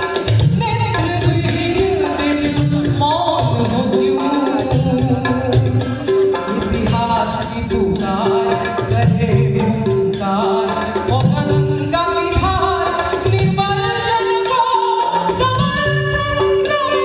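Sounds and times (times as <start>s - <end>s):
hand-drum strokes: 0.0s - 17.0s
woman singing into microphone: 0.0s - 17.0s.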